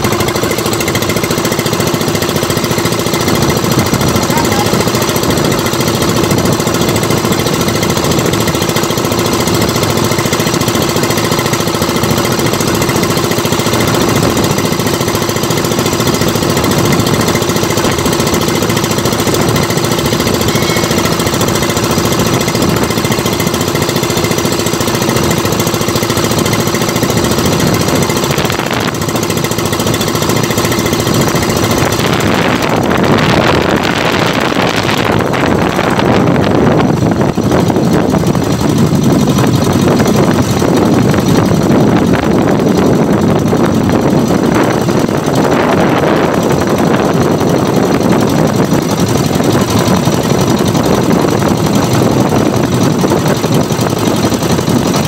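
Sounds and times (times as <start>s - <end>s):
boat engine rattling: 0.0s - 55.0s
wind buffeting microphone: 0.0s - 55.0s.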